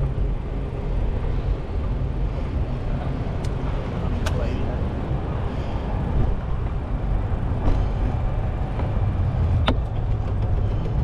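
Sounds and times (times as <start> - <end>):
city street rumble: 0.0 - 11.0.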